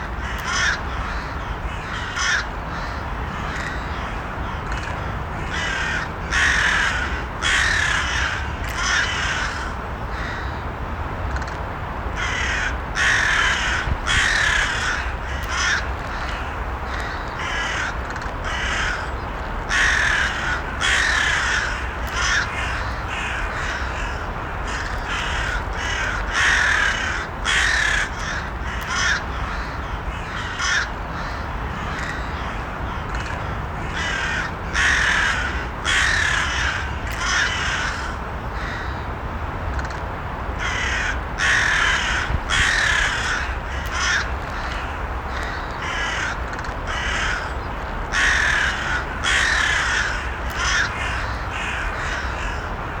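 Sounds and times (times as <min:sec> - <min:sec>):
crows cawing: 0:00.0 - 0:10.6, 0:12.2 - 0:39.0, 0:40.6 - 0:53.0.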